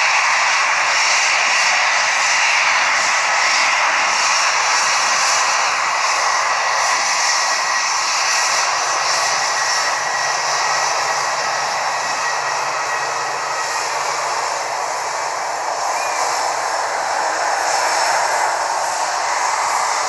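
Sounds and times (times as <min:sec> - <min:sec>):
high steady whine: 0:00.0 - 0:20.0
jet engines roaring: 0:00.0 - 0:20.0.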